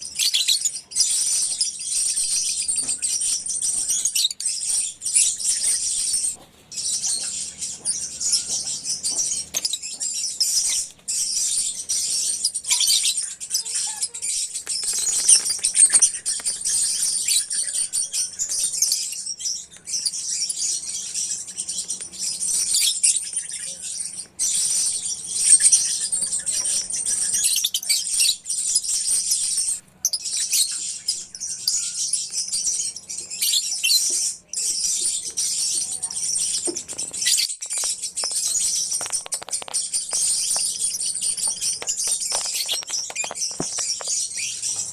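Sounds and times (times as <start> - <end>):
lovebirds chirping and chattering: 0.0 - 44.9.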